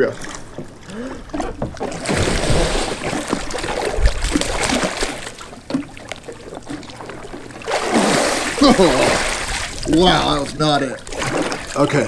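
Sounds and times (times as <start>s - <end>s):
water splashing against kayak: 0.0s - 12.0s.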